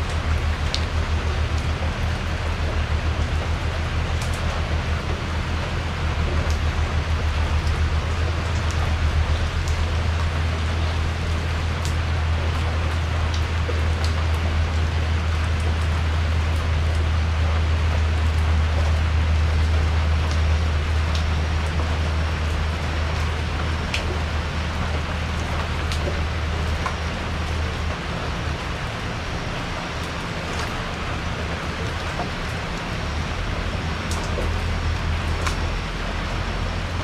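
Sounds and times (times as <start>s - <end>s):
low rumble: 0.0s - 37.0s
steady rain hiss: 0.0s - 37.0s.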